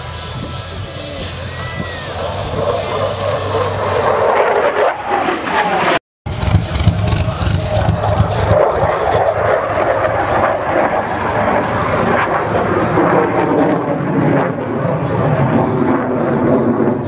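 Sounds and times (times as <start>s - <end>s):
aircraft engine rushing: 0.0s - 17.0s.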